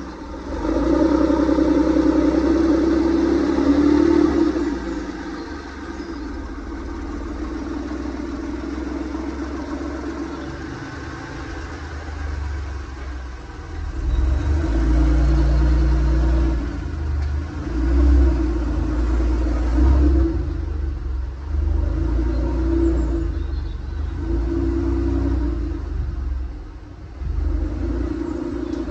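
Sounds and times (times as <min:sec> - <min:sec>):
car engine running: 0:00.0 - 0:28.9.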